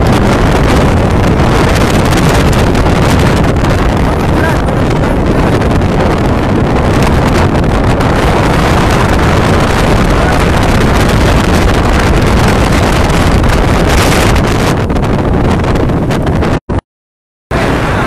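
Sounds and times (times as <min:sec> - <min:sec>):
strong wind on microphone: 0:00.0 - 0:16.8, 0:17.5 - 0:18.0.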